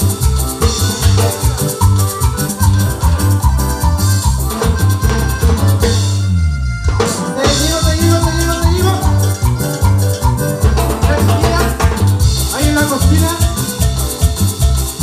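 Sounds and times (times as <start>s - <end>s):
shaker percussion: 0.0s - 6.1s, 6.9s - 15.0s
cumbia band music: 0.0s - 15.0s.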